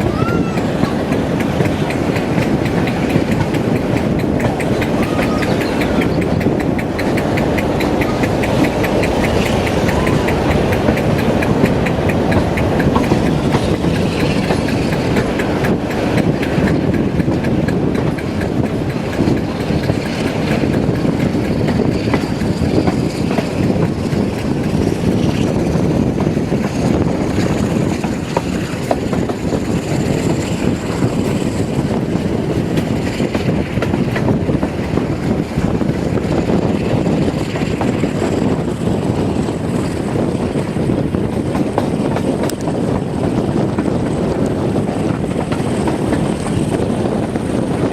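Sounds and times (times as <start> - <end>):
diesel train running: 0.0 - 47.9.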